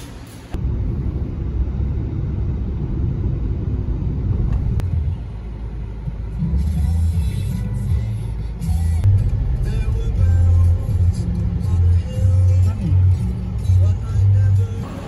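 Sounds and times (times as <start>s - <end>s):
car cabin rumble: 0.6s - 15.0s.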